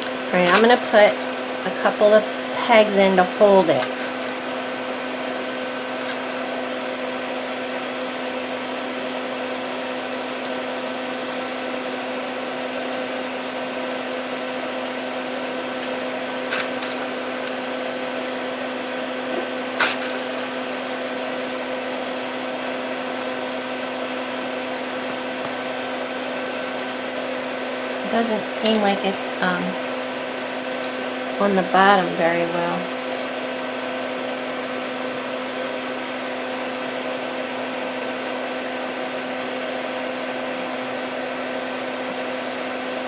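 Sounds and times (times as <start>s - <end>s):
steady machine hum: 0.0s - 43.0s.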